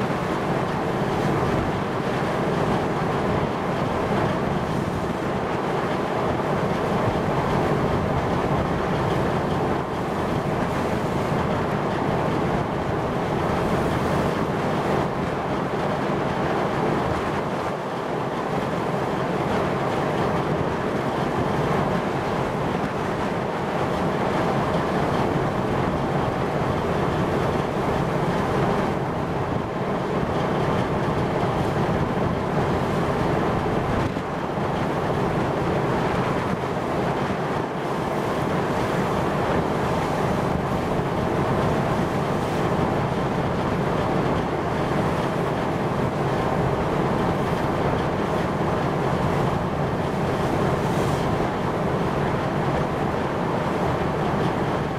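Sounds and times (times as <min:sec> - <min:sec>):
choppy sea: 0:00.0 - 0:54.9.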